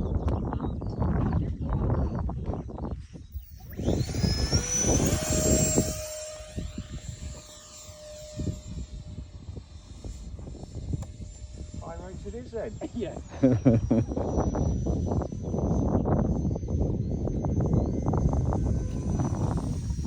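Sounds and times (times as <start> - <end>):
electric fan high whine: 0.0 - 20.0.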